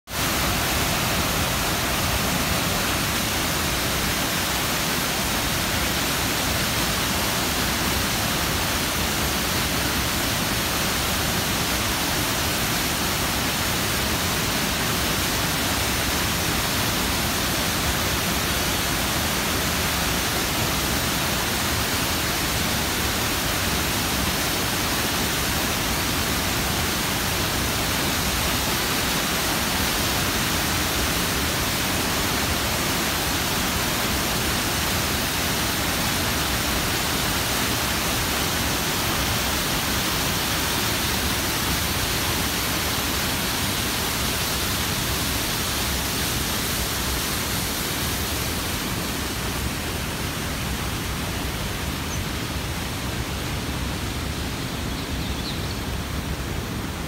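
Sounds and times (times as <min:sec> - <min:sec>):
waterfall rushing into pool: 0:00.1 - 0:57.0.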